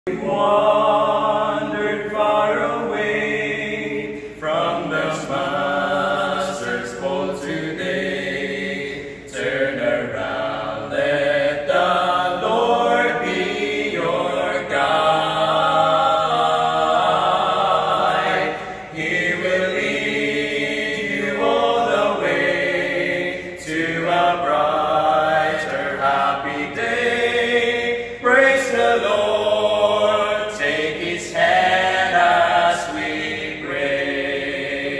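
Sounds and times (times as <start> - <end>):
men singing a cappella: 0.0 - 34.9.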